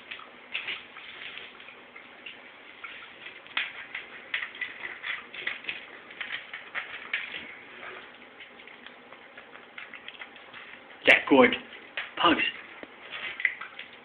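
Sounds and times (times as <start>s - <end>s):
dog licking and smacking: 0.0s - 14.0s.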